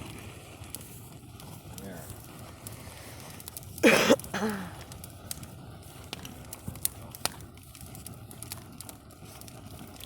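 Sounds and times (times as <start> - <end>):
campfire crackling: 0.0 - 10.0
sharp fire pops: 0.0 - 10.0.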